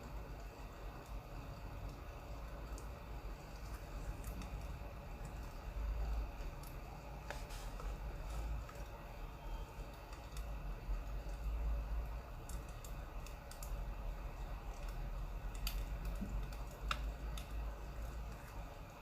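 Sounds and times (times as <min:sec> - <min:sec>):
firewood crackling: 0:00.0 - 0:19.0.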